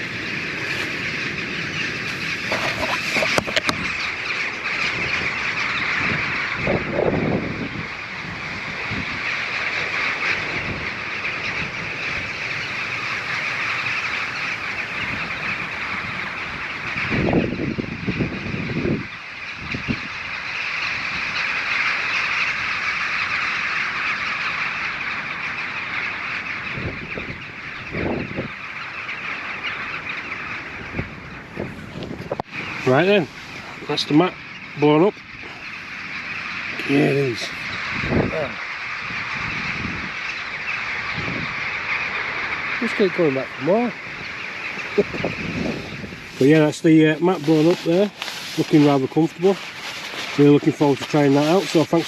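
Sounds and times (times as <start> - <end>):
birds calling: 0.0 - 52.0.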